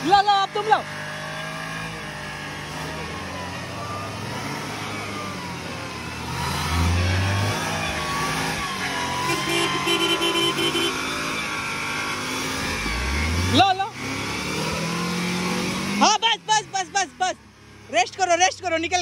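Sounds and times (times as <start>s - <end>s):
car engine revving under load: 0.0s - 19.0s.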